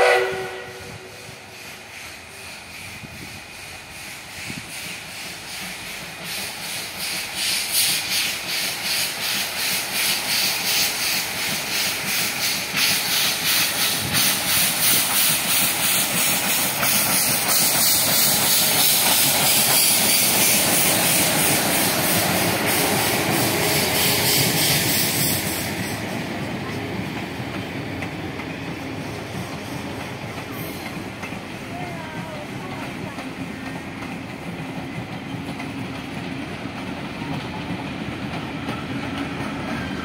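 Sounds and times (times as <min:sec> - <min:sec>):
steam hissing: 0:00.0 - 0:40.0
steam locomotive chuffing: 0:00.0 - 0:40.0.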